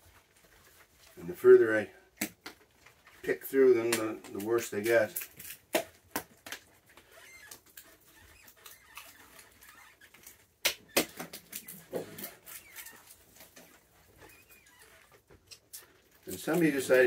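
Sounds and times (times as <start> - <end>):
peanut shells clicking and rustling: 2.2 - 17.0.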